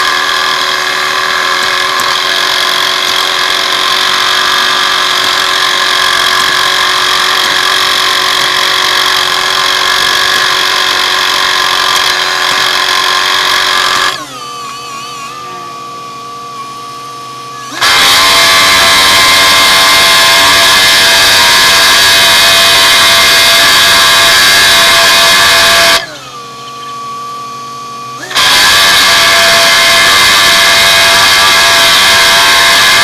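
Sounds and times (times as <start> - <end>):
road-paving machinery running: 0.0 - 33.0.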